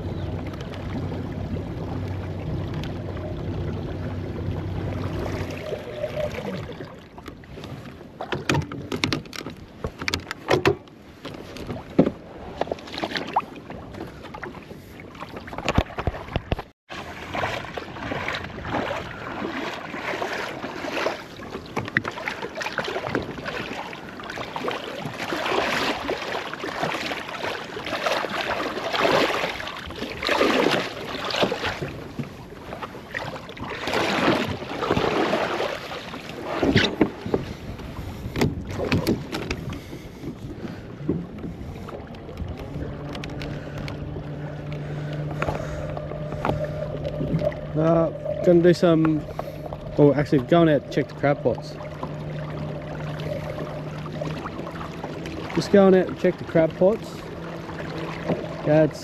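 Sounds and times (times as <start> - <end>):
water sloshing around a kayak: 0.0 - 59.0.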